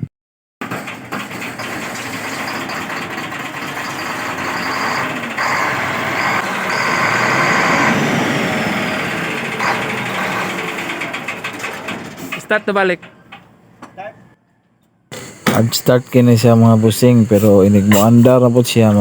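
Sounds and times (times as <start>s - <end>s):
diesel engine running: 0.6s - 13.9s, 15.1s - 19.0s.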